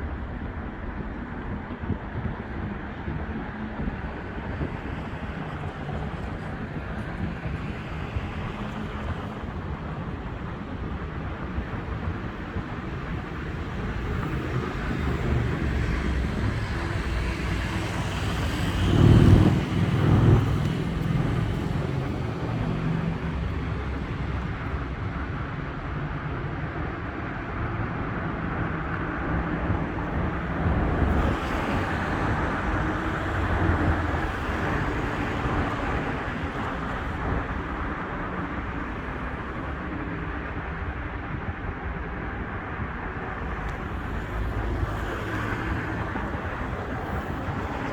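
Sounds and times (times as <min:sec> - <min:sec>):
road traffic noise: 0:00.0 - 0:47.9.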